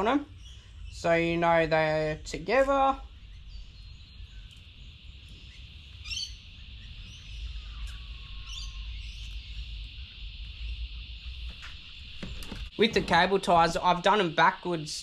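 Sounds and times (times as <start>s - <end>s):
birds chirping: 0.0s - 15.0s
steady high hiss: 0.0s - 15.0s.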